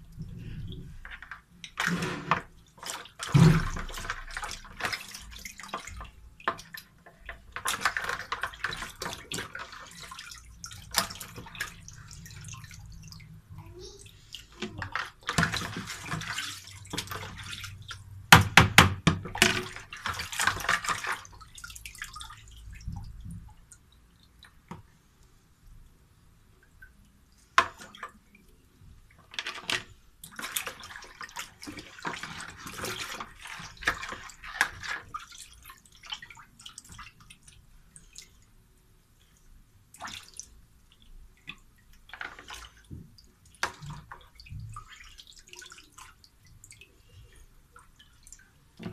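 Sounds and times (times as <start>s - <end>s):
water sloshing and splashing: 0.0s - 48.9s.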